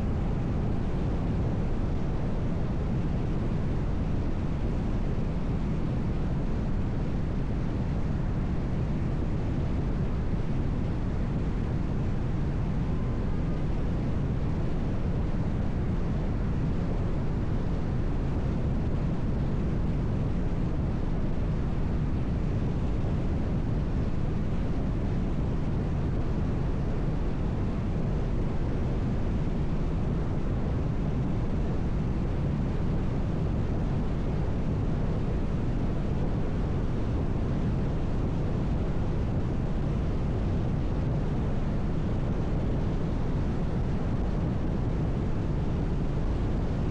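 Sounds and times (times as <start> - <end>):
wind noise: 0.0 - 46.9.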